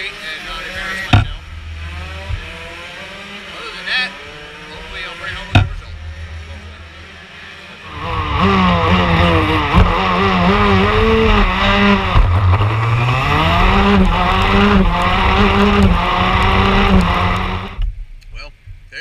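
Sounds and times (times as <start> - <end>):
kart engine revving: 0.0 - 17.8
low steady hum: 0.6 - 3.4, 4.8 - 19.0.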